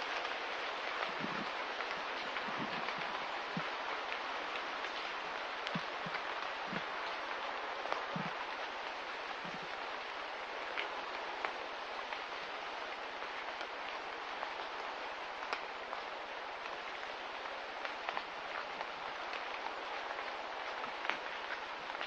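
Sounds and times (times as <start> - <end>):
light rain hissing: 0.0 - 22.0
raindrops ticking: 0.0 - 22.0.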